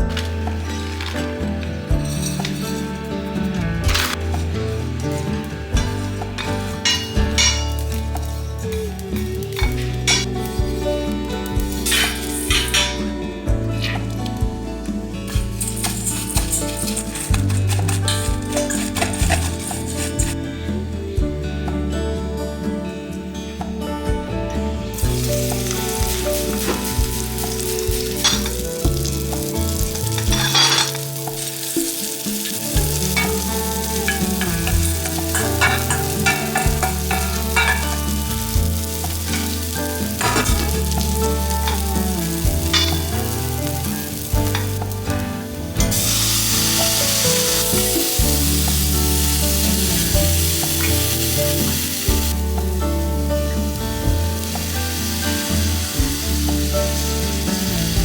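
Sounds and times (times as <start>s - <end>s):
fish sizzling in a pan: 0.0s - 13.0s, 15.2s - 20.4s, 24.9s - 58.0s.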